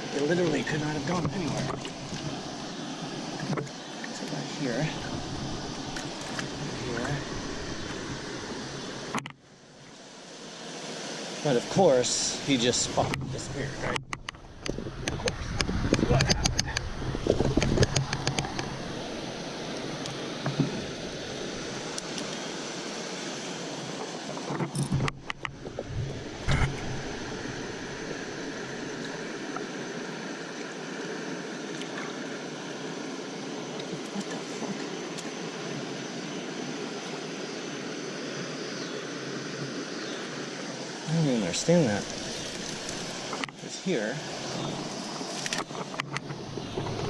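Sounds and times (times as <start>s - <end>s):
creek water rushing: 0.0s - 47.0s.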